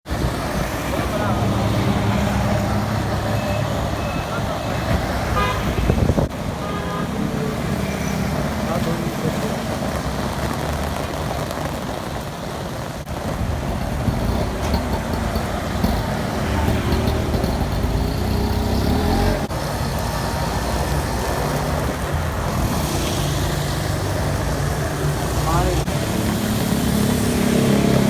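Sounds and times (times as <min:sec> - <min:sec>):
vehicles passing: 0:00.1 - 0:28.0.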